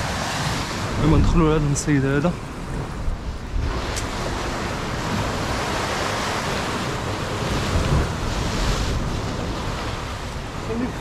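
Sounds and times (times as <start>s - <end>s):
surf washing against concrete: 0.0s - 11.0s
wind on microphone: 0.0s - 11.0s.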